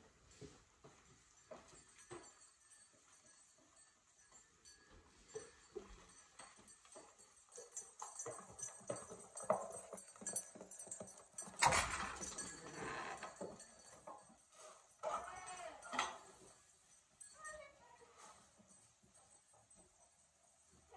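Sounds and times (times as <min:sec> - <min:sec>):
hooves clicking on concrete: 0:00.0 - 0:20.9.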